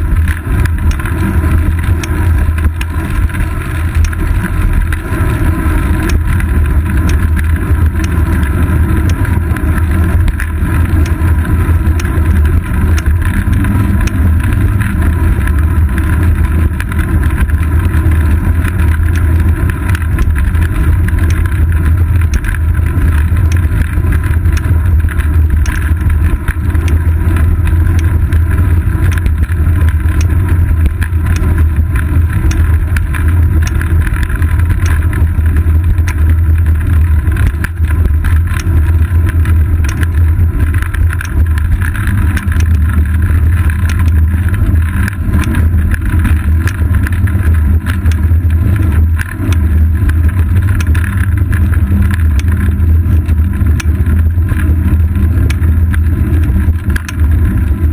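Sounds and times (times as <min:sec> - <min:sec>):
small clicks and rattles: 0:00.0 - 0:57.9
wind and road rumble: 0:00.0 - 0:57.9.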